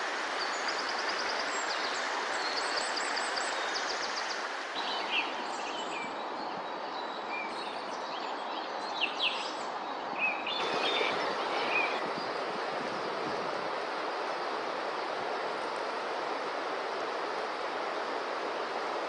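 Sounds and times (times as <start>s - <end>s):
river water rushing: 0.0s - 7.0s, 9.7s - 19.0s.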